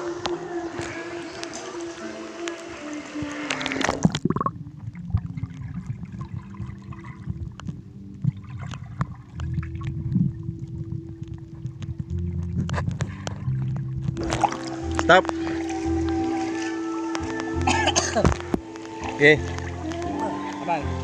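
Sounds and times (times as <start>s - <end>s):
muffled underwater rumble: 0.0s - 21.0s
water splashing in a pool: 0.0s - 21.0s
bubbling clicks: 0.1s - 21.0s.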